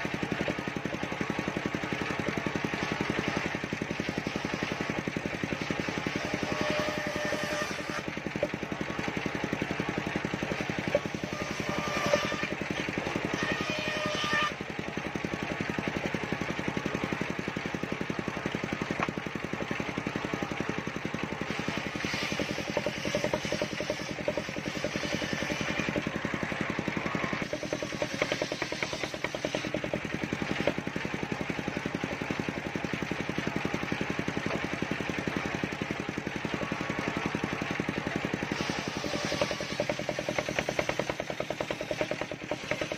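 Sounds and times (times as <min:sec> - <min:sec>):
engine drone: 0:00.0 - 0:42.9
saw blade cutting wood: 0:00.0 - 0:42.9.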